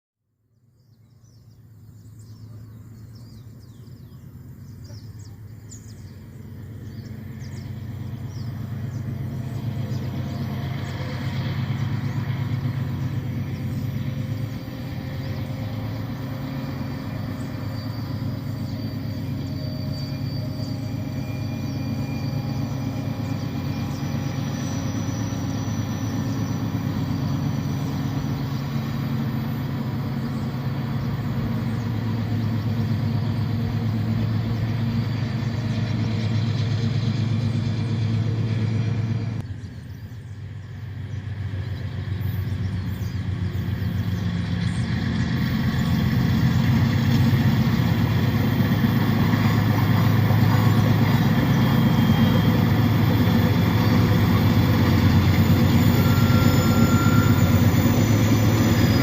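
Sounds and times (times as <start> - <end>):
locomotive engines humming: 1.2 - 59.0.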